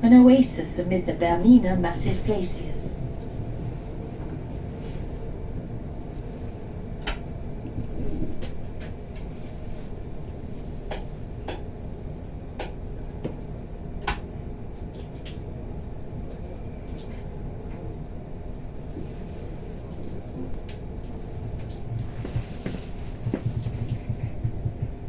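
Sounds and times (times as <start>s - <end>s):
train carriage rumbling on rails: 0.0s - 25.0s.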